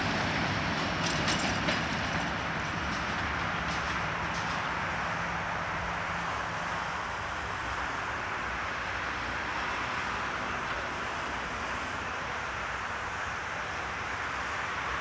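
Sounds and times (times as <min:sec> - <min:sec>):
distant diesel locomotive hum: 0:00.0 - 0:15.0
outdoor rumble and hiss: 0:00.0 - 0:15.0.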